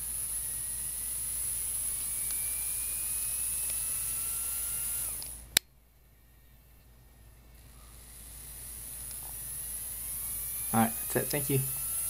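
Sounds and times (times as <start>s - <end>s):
lower motor whine: 0.0s - 12.0s
small motor whining: 0.0s - 12.0s.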